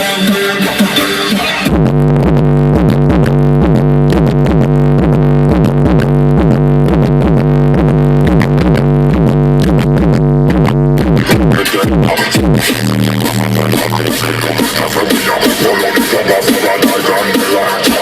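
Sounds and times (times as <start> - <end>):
bass-heavy electronic music: 0.0 - 18.0.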